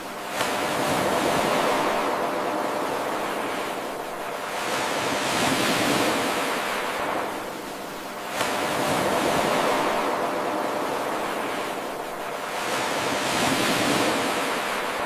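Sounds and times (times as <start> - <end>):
ocean waves washing onto shore: 0.0 - 15.0.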